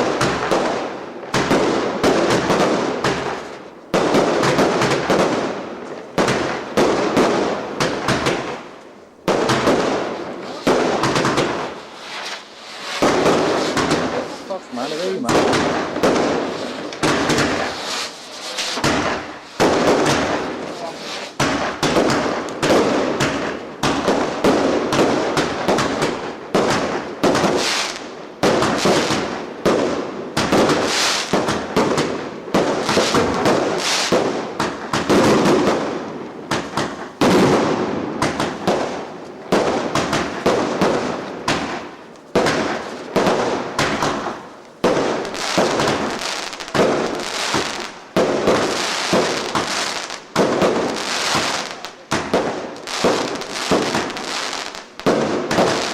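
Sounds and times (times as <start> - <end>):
fireworks bangs: 0.0 - 55.9
fireworks crackling: 0.0 - 55.9.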